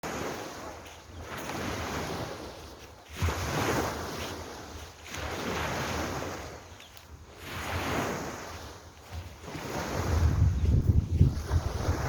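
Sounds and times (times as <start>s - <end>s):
ocean waves washing ashore: 0.0s - 12.0s.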